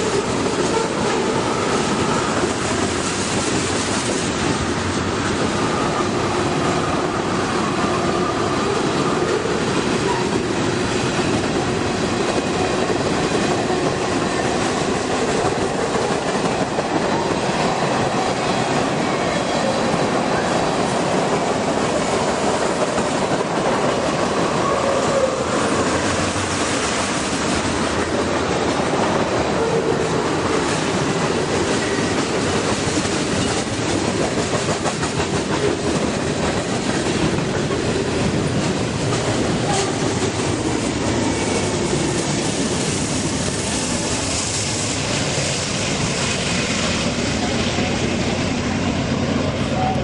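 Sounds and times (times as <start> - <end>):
freight train rumbling past: 0.0 - 50.0.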